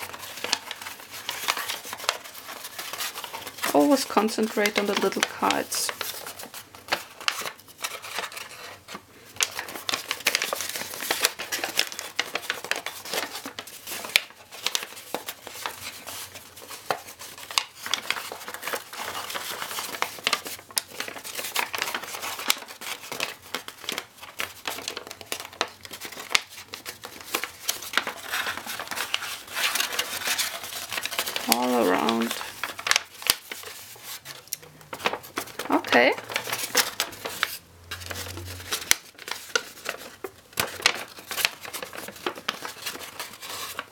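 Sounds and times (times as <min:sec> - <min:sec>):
paper crinkling and rustling: 0:00.0 - 0:43.9.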